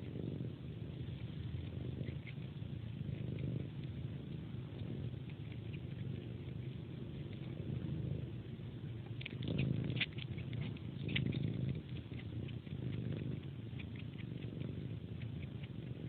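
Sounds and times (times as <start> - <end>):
cat purring: 0.0 - 16.0
cat sucking clicks and smacks: 1.3 - 16.0.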